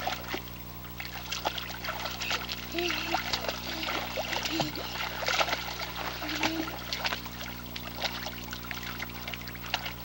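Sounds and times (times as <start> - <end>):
water splashing in pool: 0.0 - 10.0.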